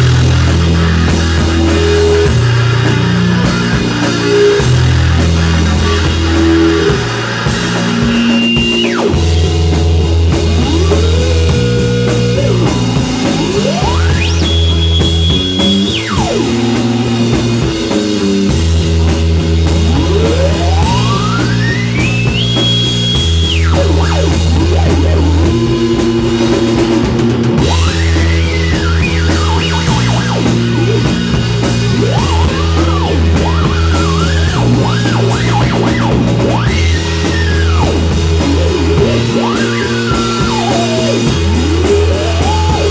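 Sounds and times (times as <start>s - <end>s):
bass guitar groove: 0.0s - 42.9s
drum kit: 0.0s - 42.9s
lead guitar gliding to high notes: 0.0s - 42.9s.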